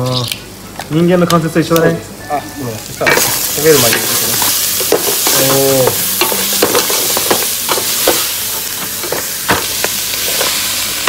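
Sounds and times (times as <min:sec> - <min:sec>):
onion and garlic sizzling in oil: 0:01.8 - 0:11.0.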